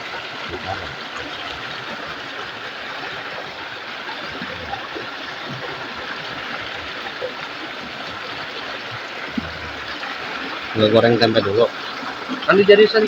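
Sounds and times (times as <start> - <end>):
water flowing over rocks: 0.0 - 13.0.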